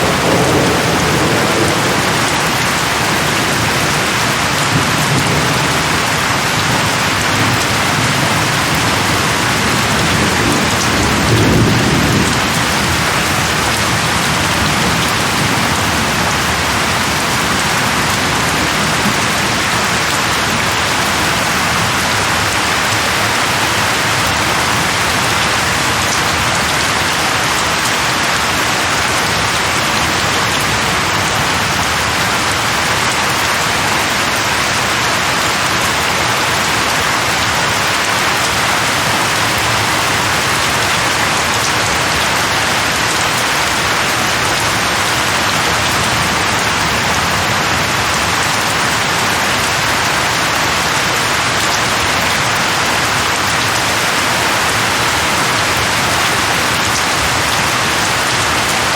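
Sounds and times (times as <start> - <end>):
rain on leaves: 0.0 - 58.9.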